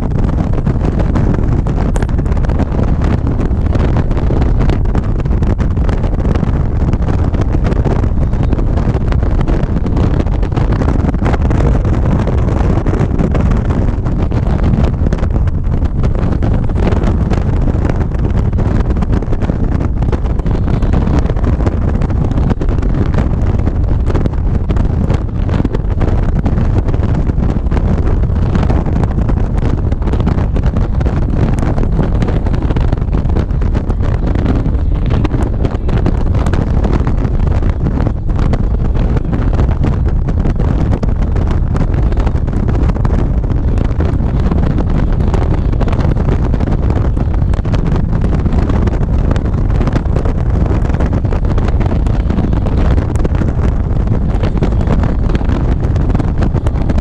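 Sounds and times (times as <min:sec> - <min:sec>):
road noise: 0:00.0 - 0:57.0
wind noise on microphone: 0:00.0 - 0:57.0.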